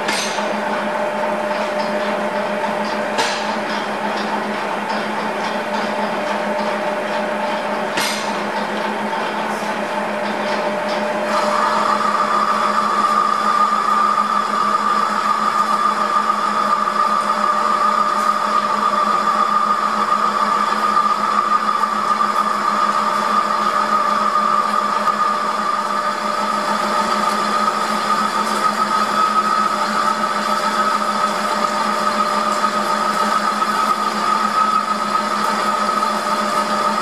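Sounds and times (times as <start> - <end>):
metal lathe cutting: 0.0 - 37.0.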